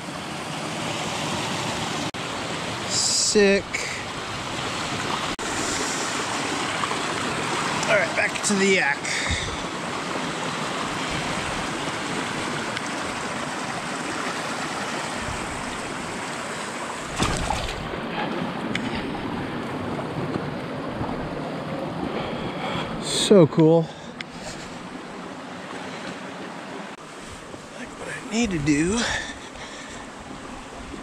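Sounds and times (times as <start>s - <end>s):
creek water over rocks: 0.0s - 31.0s.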